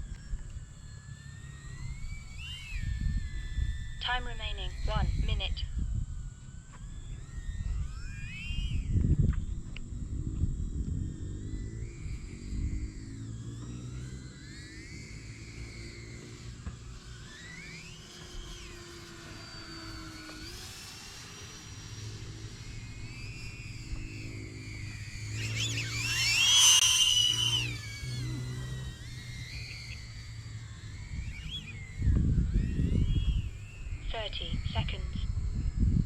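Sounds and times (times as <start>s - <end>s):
model plane motor whine: 0.0s - 36.0s.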